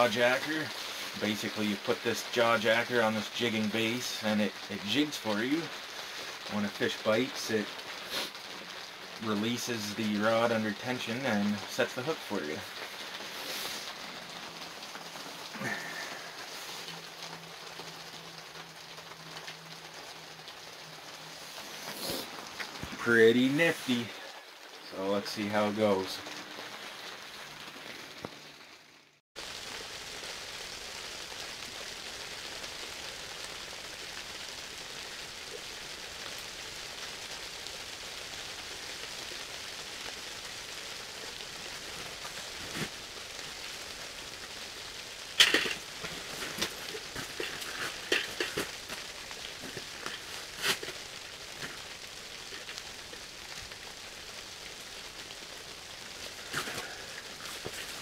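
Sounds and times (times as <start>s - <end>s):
rain hissing on fabric: 0.0s - 58.0s.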